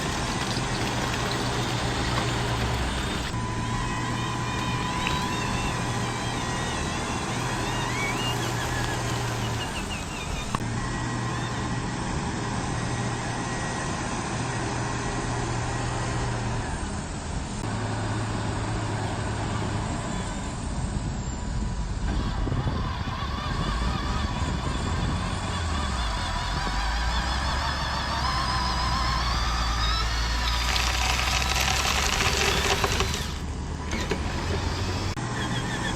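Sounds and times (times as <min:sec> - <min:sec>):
electric motor and gear whine: 0:00.0 - 0:35.9.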